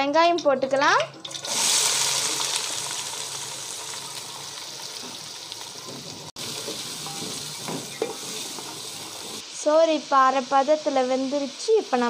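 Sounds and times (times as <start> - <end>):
onions sizzling in oil: 0.3 - 12.0.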